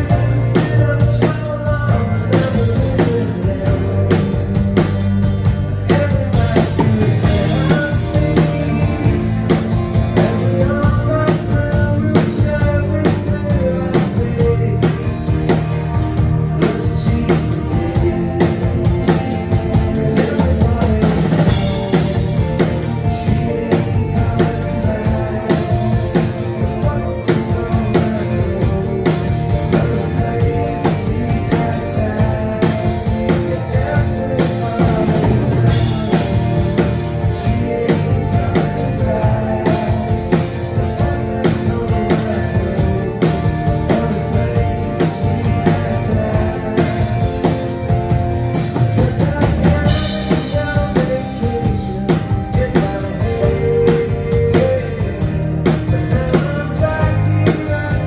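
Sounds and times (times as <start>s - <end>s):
drum kit beat: 0.0s - 58.0s
live rock band playing: 0.0s - 58.0s.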